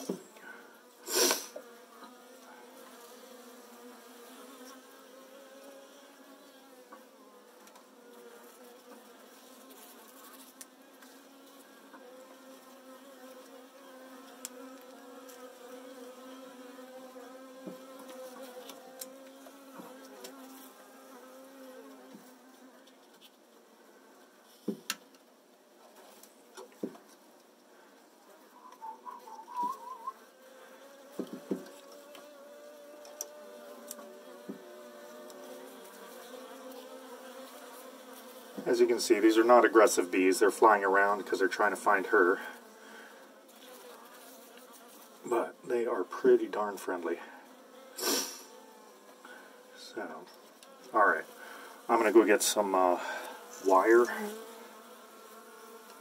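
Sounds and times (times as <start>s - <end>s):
honeybees buzzing: 0.0s - 23.0s, 27.7s - 56.0s.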